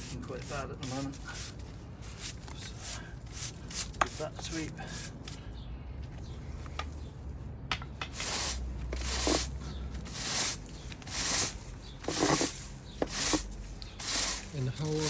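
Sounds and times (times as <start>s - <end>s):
brush swishing strokes: 0.0s - 5.4s, 8.1s - 15.0s.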